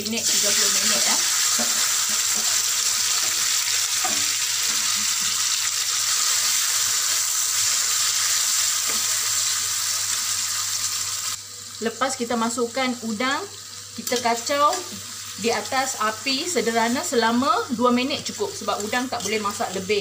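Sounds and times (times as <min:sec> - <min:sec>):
prawns sizzling in hot oil: 0:00.0 - 0:20.0.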